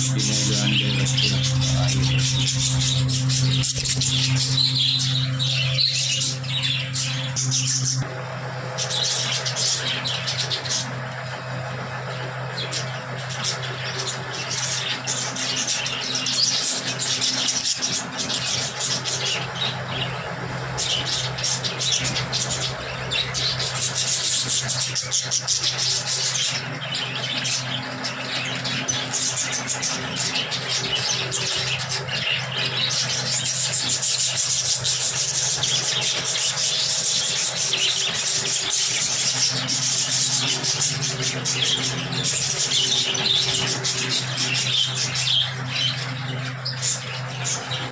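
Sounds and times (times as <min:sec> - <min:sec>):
budgerigars chattering: 0:00.0 - 0:08.1, 0:08.8 - 0:47.9
steady low hum: 0:00.0 - 0:47.9.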